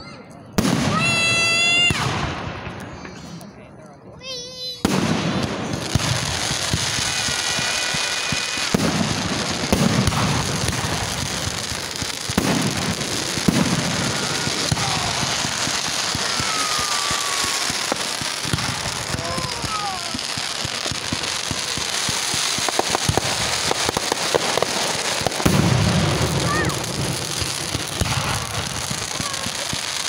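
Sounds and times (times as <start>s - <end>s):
fireworks crackling and hissing: 0.2s - 30.0s
fireworks pops and bangs: 0.2s - 30.0s
firework whistles: 5.4s - 30.0s.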